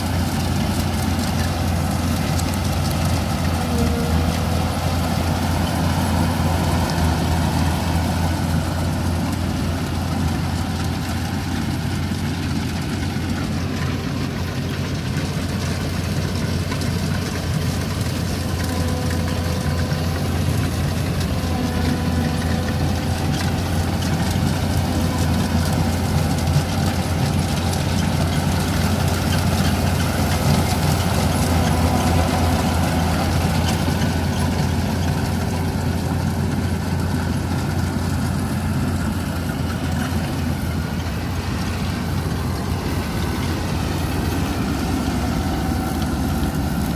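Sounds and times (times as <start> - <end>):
heavy machinery engine droning: 0.0 - 46.9.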